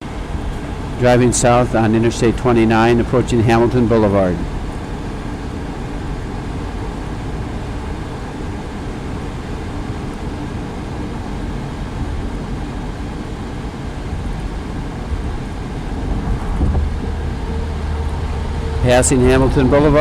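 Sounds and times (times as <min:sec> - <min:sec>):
car tyre and engine road noise: 0:00.0 - 0:20.0.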